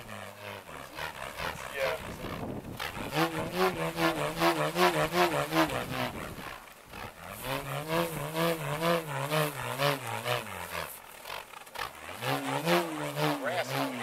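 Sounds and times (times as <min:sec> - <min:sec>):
bullroarer humming roar: 0:00.0 - 0:14.0.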